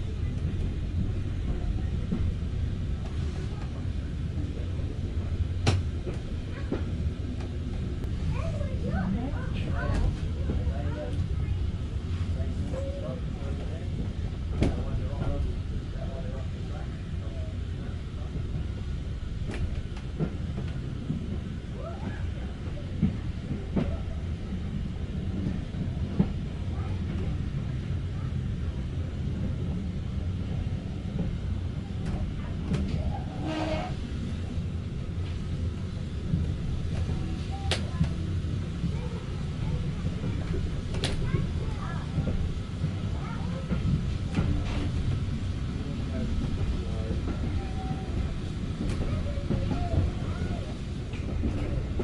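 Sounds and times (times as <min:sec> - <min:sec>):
train wheels on rails: 0:00.0 - 0:52.0.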